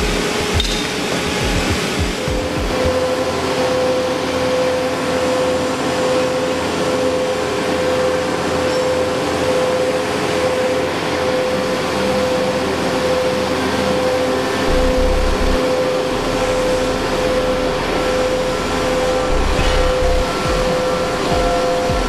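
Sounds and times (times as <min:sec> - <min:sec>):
planer machine humming: 0:00.0 - 0:22.0.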